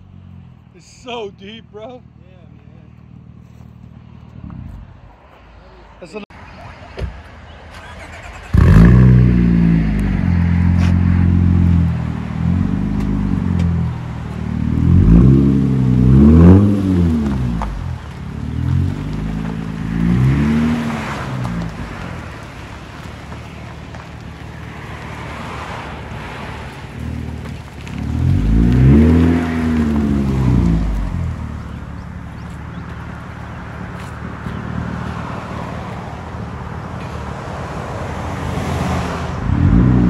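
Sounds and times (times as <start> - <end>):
car engine revving: 7.8 - 40.0.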